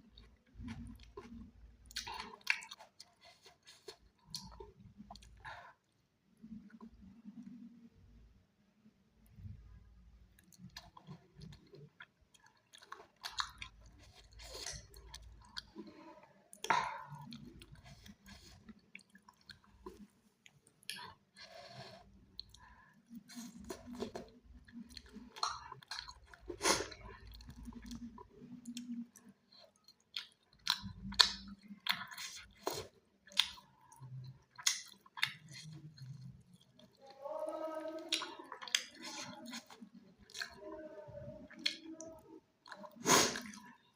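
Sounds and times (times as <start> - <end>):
person chewing with mouth smacks: 0.1 - 6.0, 10.4 - 37.1, 37.9 - 43.8.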